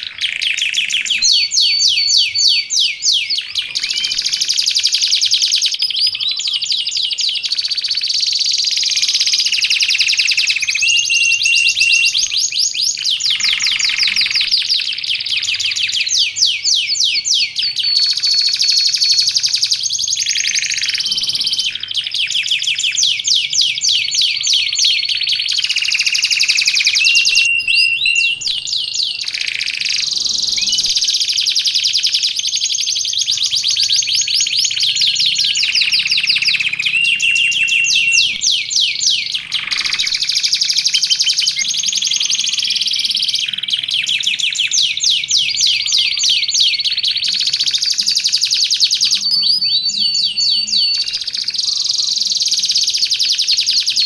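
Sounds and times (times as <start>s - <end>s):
canary singing fast trills: 0.0s - 54.0s.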